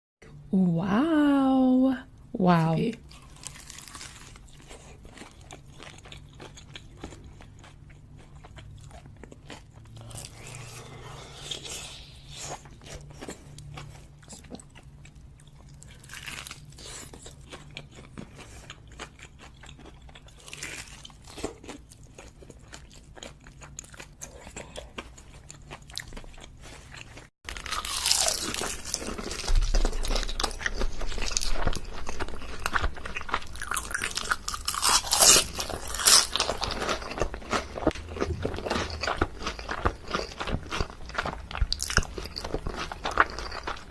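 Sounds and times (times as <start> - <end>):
crunching and chewing crisp food: 3.0 - 43.9.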